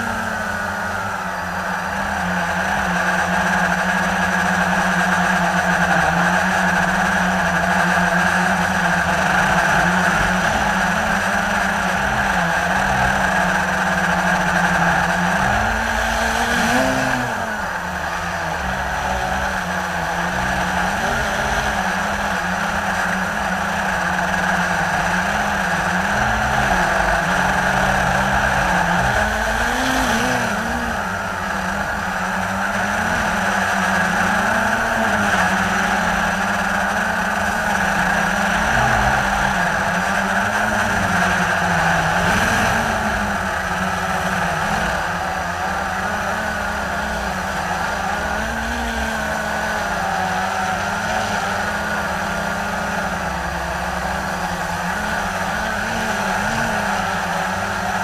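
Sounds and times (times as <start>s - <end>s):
quadcopter propellers whirring: 0.0s - 58.0s.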